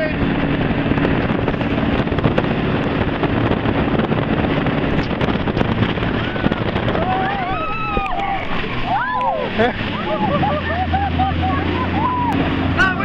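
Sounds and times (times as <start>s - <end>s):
boat engine drone: 0.0s - 13.0s
rushing water: 0.0s - 13.0s
wind buffeting microphone: 0.0s - 13.0s.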